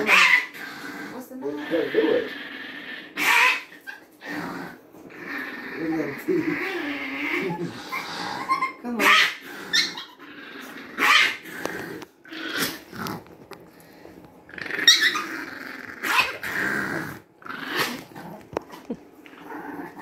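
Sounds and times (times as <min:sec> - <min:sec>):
small dog growling: 0:00.0 - 0:20.0.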